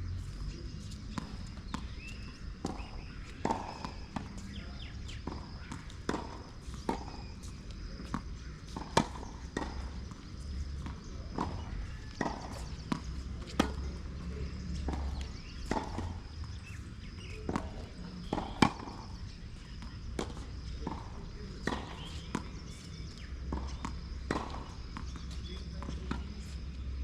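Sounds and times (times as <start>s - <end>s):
players' footsteps: 0.2s - 26.9s
tennis ball struck by rackets: 0.8s - 26.6s.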